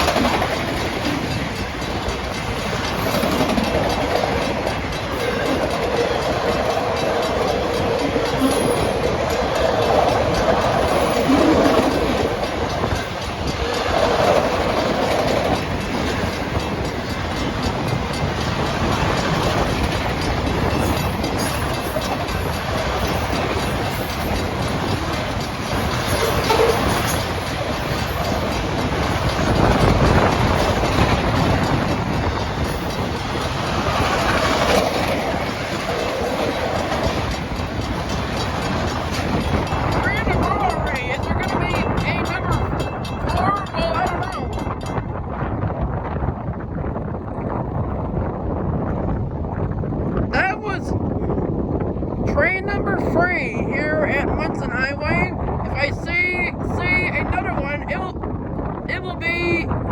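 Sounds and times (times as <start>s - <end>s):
railroad cars rumbling past: 0.0s - 59.9s
steel wheels clattering on rails: 0.0s - 59.9s.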